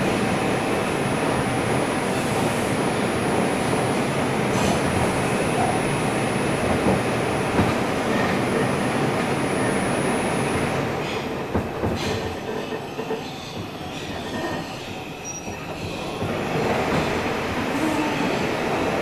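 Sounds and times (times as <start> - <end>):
subway wheels rumbling on rail: 0.0 - 19.0.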